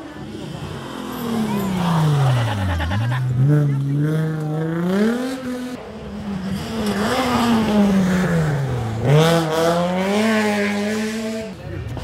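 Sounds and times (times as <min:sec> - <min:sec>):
rally car engines revving: 0:00.0 - 0:12.0.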